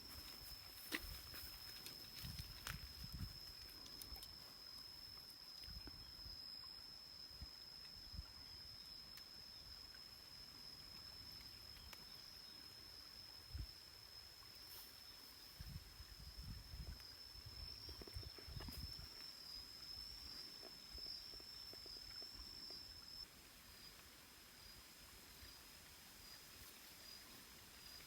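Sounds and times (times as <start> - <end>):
high-pitched insect drone: 0.0 - 23.9.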